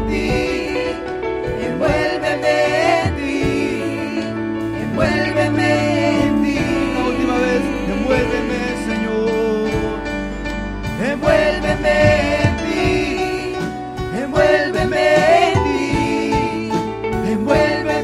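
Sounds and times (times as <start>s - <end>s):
worship music: 0.0s - 18.0s.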